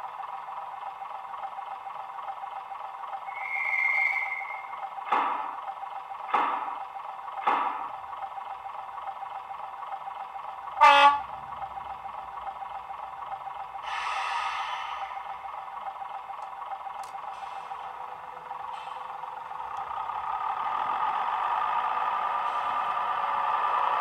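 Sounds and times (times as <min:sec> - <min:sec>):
diesel railcar idling: 0:00.0 - 0:24.0.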